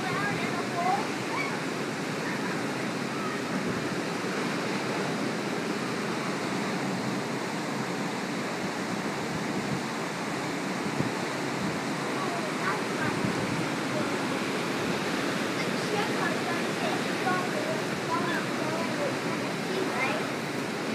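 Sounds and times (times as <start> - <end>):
heavy surf breaking: 0.0 - 20.9
wind: 0.0 - 20.9.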